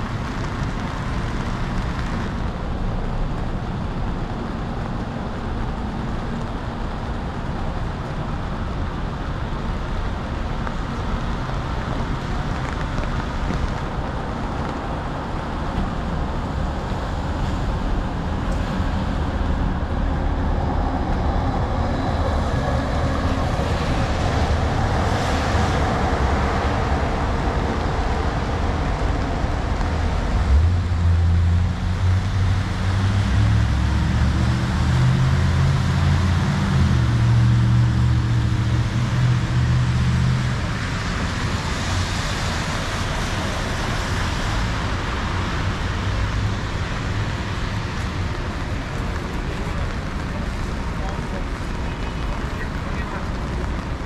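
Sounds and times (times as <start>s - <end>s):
cars passing with tyre hiss: 0.0s - 54.0s
heavy low engine rumble: 0.0s - 54.0s.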